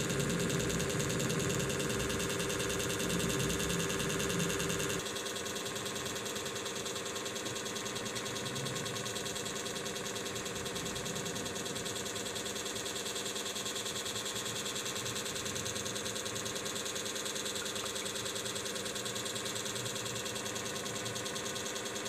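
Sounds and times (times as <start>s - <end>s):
small machine buzzing: 0.0s - 22.0s.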